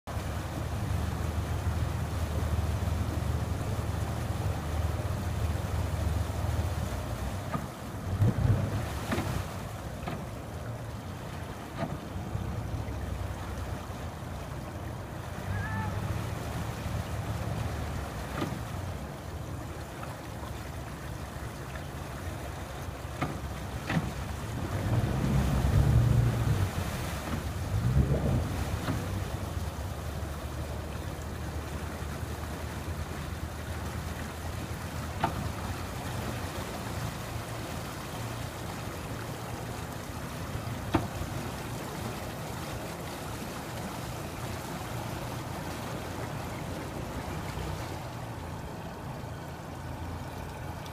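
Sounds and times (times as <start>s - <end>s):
outboard motors running: 0.1s - 50.9s.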